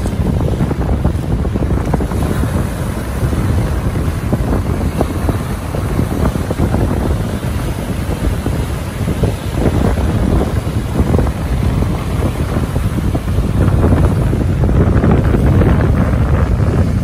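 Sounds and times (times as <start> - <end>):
waves breaking on rocks: 0.0 - 17.0
wind buffeting microphone: 0.0 - 17.0.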